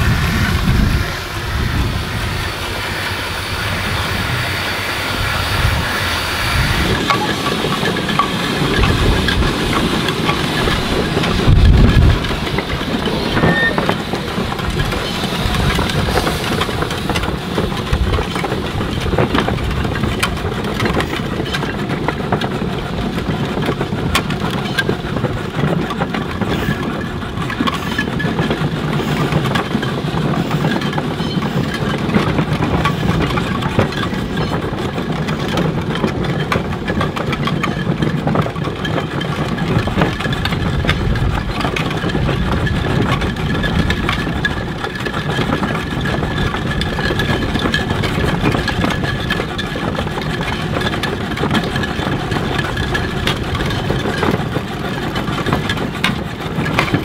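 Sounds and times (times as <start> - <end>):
model steam engine clattering: 0.0 - 57.0.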